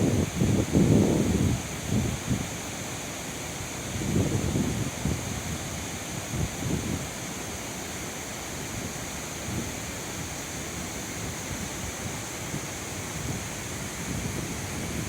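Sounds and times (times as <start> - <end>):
wind gusts on microphone: 0.0 - 2.6, 3.8 - 7.2, 8.6 - 15.0
waterfall roaring: 0.0 - 15.0.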